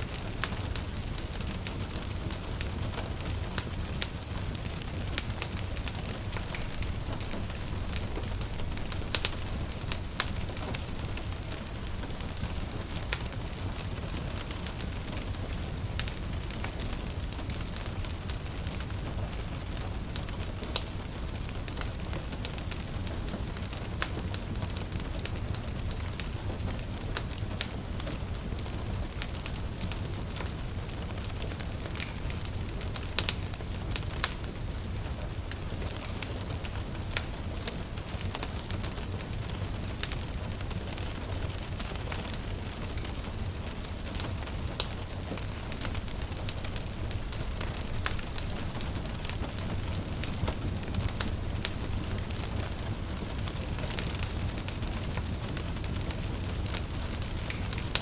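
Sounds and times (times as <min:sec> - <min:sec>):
gentle rain pattering: 0:00.0 - 0:58.0
wood fire crackling and popping: 0:00.0 - 0:58.0.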